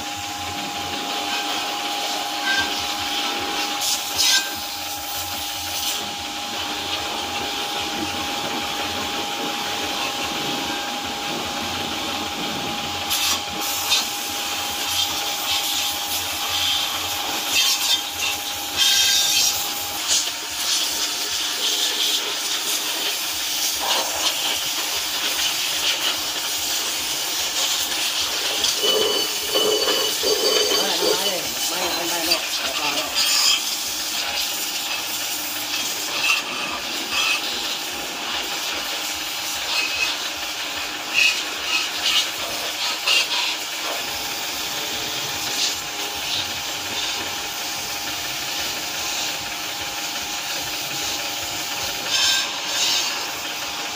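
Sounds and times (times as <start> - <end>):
pressure washer spraying metal: 0.0 - 53.9.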